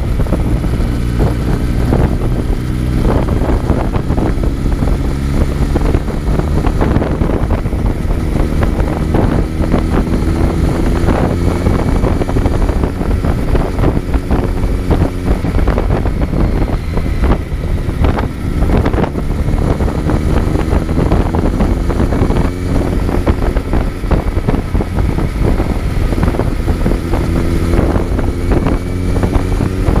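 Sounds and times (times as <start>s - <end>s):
motorcycle engine revving: 0.0s - 30.0s
wind buffeting microphone: 0.0s - 30.0s.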